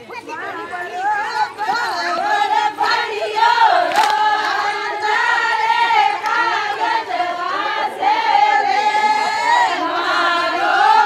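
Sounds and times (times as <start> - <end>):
women singing together: 0.3 - 11.0.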